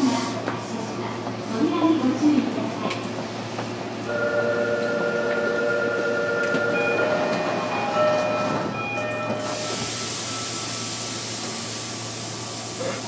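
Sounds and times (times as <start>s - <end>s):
train humming: 0.0s - 13.0s.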